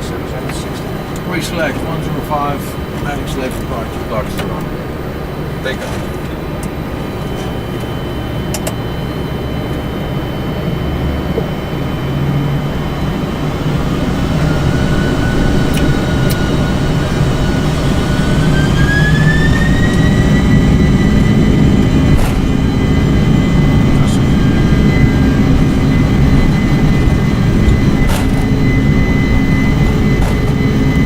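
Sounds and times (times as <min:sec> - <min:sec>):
jet engine whine: 0:00.0 - 0:31.0
jet engines rumbling: 0:00.0 - 0:31.0.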